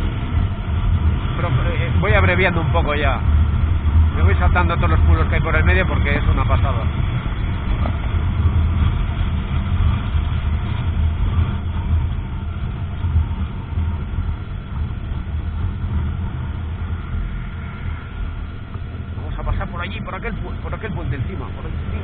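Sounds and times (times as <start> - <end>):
motorcycle engine cruising: 0.0 - 22.0
wind rumble on microphone: 0.0 - 22.0.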